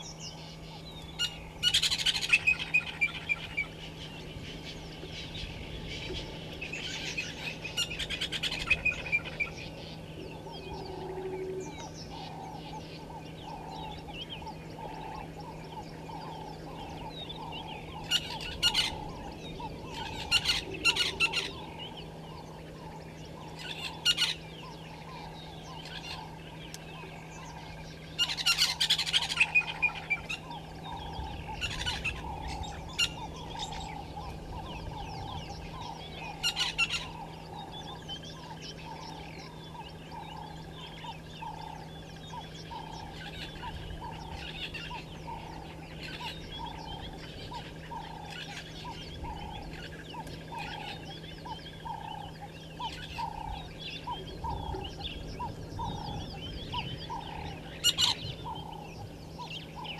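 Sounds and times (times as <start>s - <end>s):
constant low hum: 0.0s - 59.9s
harsh chattering bird calls: 0.0s - 59.9s.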